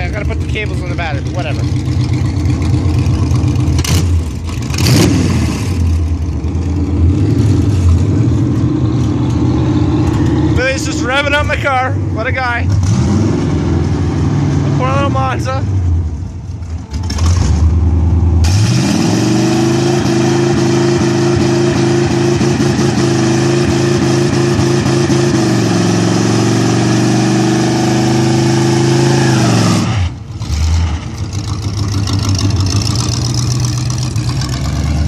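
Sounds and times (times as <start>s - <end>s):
race car engine revving: 0.0s - 16.0s, 16.6s - 35.0s.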